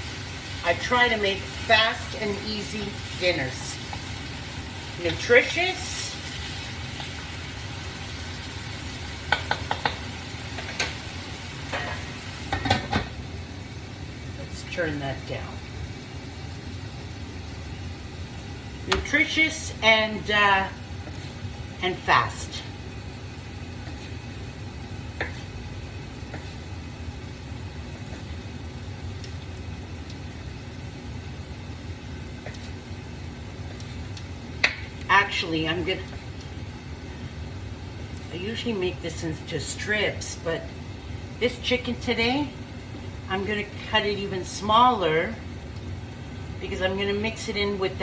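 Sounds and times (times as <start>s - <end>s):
appliance humming: 0.0s - 48.0s
vegetables sizzling in a pan: 0.0s - 48.0s.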